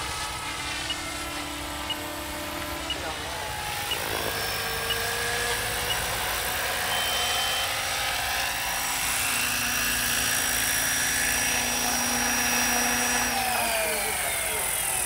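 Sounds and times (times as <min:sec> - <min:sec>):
helicopter motor whine: 0:00.0 - 0:15.0
rotor blades hissing: 0:00.0 - 0:15.0.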